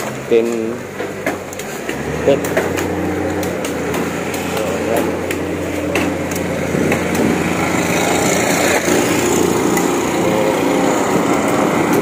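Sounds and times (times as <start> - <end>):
small engine running: 1.7 - 12.0.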